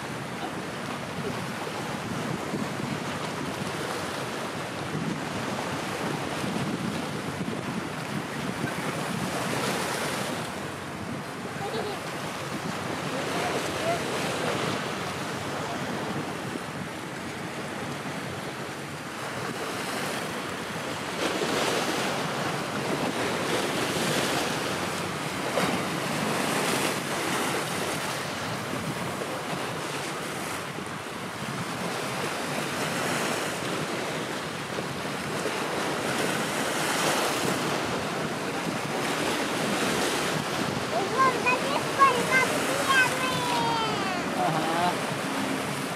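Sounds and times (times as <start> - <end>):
choppy sea water washing: 0.0 - 45.9
wind buffeting microphone: 0.0 - 45.9.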